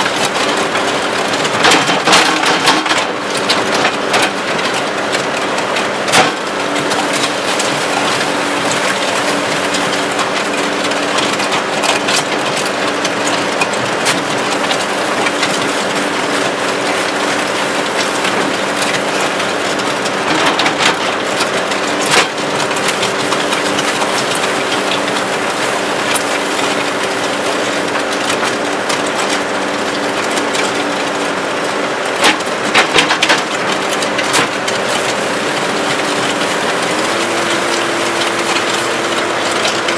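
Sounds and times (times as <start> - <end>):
auger grinding concrete: 0.0 - 39.9
loader engine running: 0.0 - 39.9.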